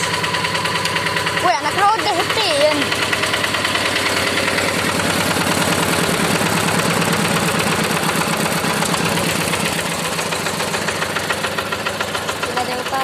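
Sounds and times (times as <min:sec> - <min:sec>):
diesel engine knocking: 0:00.0 - 0:13.0.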